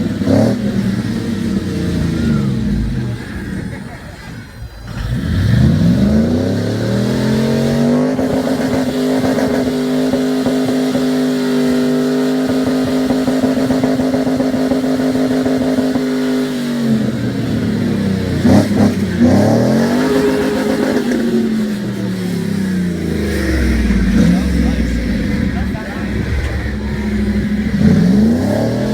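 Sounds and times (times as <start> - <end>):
pickup engine revving: 0.0 - 28.9.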